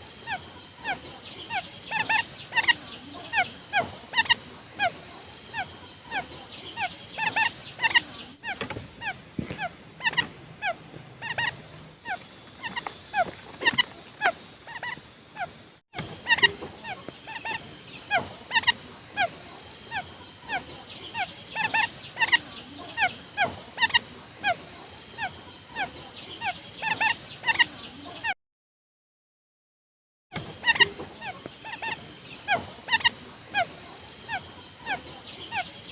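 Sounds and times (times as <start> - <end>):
quail calling: 0.0 - 28.3, 30.4 - 35.9.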